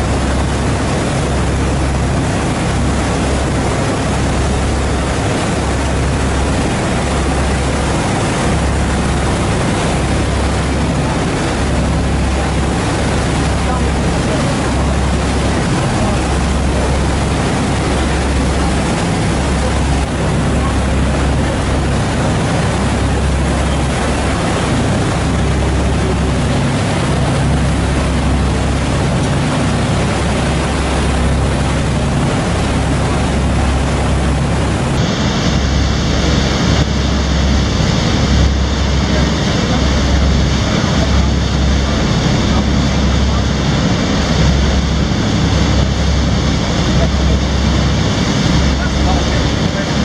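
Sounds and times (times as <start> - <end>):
boat engine droning: 0.0 - 50.0
wake churning water: 0.0 - 50.0.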